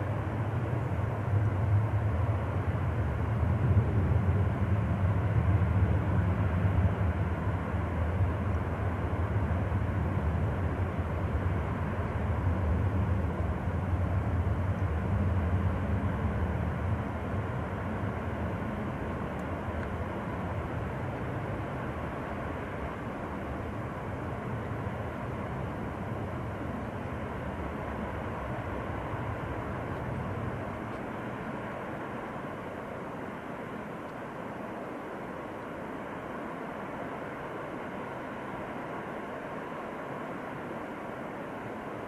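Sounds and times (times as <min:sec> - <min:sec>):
low drone: 0:00.0 - 0:40.8
distant waterfall rushing: 0:00.0 - 0:42.0.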